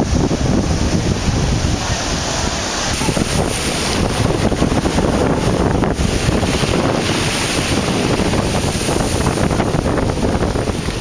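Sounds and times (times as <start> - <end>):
surf crashing ashore: 0.0 - 11.0
wind buffeting microphone: 0.0 - 11.0.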